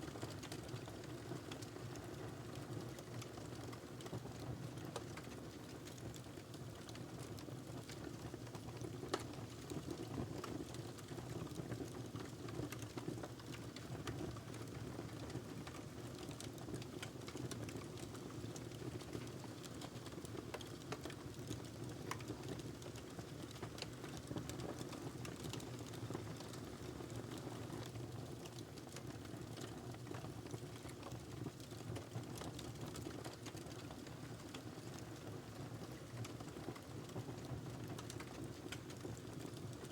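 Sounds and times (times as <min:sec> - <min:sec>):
fire crackles and pops: 0:00.1 - 0:14.8, 0:15.4 - 0:39.8.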